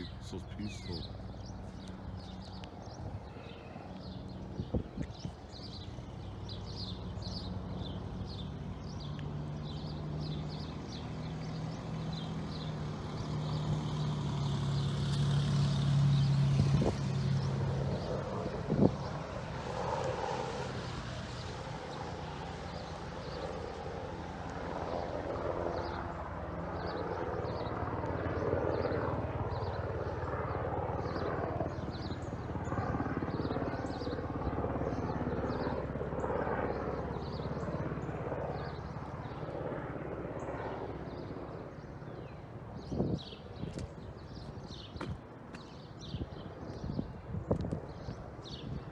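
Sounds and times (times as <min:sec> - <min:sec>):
birds chirping: 0:00.0 - 0:48.9
helicopter drone overhead: 0:00.0 - 0:48.9.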